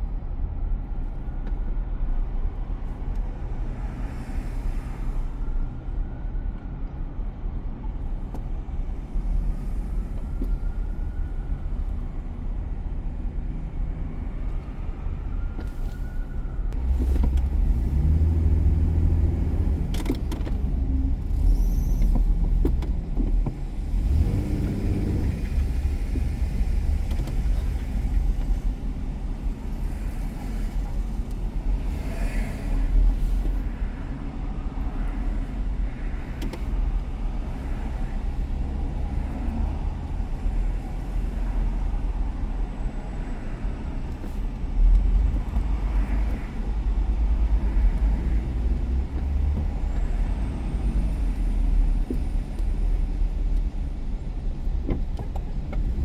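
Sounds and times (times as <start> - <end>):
road rumble: 0.0 - 56.0
car engine: 8.0 - 56.0.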